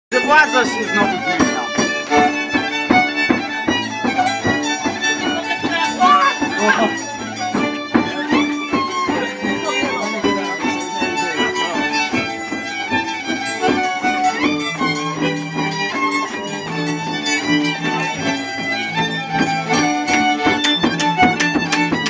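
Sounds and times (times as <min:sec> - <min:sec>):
folk dance band with fiddle: 0:00.1 - 0:22.0.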